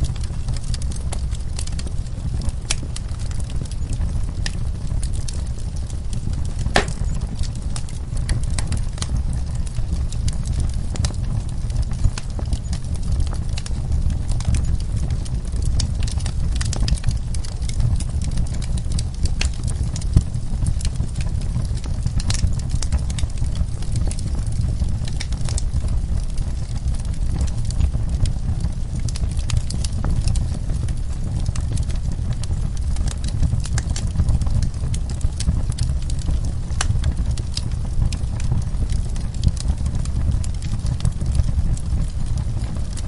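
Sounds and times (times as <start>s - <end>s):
fire rumbling: 0.0s - 43.0s
logs crackling and popping: 0.0s - 43.0s.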